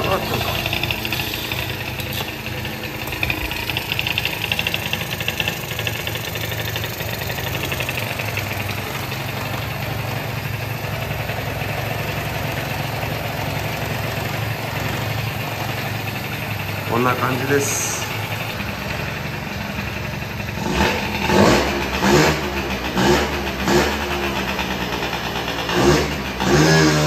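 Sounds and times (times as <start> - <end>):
scooter engine idling: 0.0 - 27.0.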